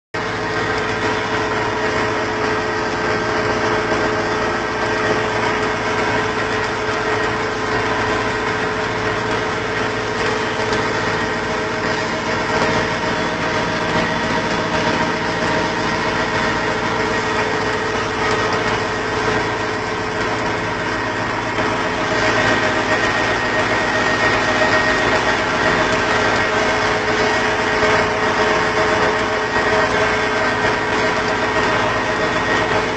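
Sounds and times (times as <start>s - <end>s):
farm machine engine running: 0.2s - 32.9s.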